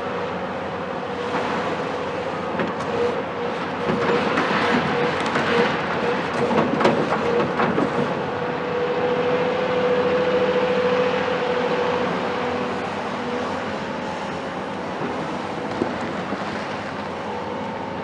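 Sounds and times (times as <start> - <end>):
excavator diesel engine whining: 0.0 - 18.0.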